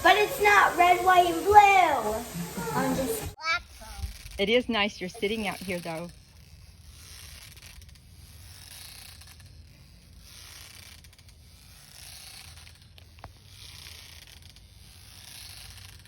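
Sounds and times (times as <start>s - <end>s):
swing seat creaking and scraping: 0.0s - 16.0s.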